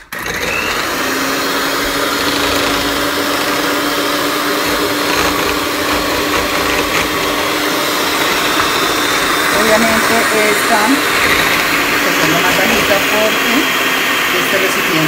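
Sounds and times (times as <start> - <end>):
electric hand mixer whisking: 0.0 - 15.0.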